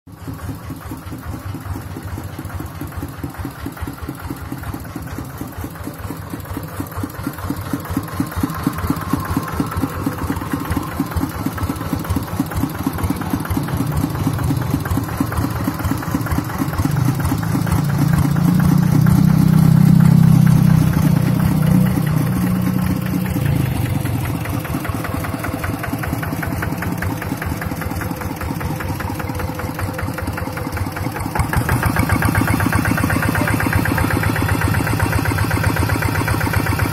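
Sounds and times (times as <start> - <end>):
diesel engine chugging: 0.1 - 36.9.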